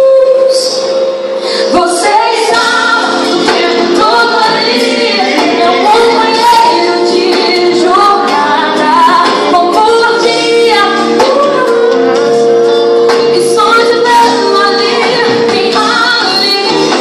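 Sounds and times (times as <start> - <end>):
woman singing worship song: 0.0 - 12.4, 13.2 - 17.0
band playing: 0.0 - 17.0.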